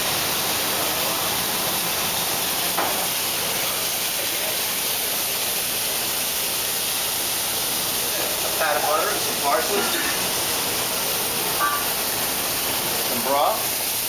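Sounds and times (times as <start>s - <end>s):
hot pan sizzling: 0.0s - 14.0s.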